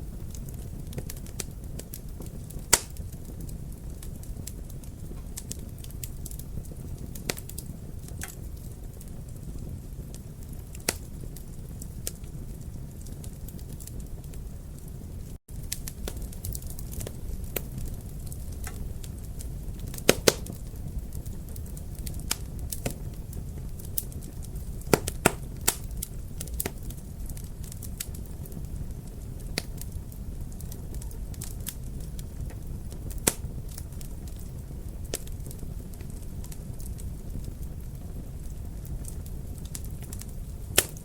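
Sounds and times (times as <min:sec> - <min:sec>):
wood fire crackling: 0:00.0 - 0:41.0
sharp pops of fire: 0:00.1 - 0:14.9, 0:15.5 - 0:41.0.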